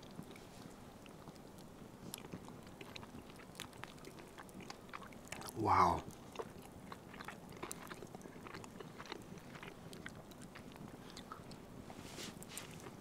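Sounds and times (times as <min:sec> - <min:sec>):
chewing and biting toast: 0:00.0 - 0:13.0.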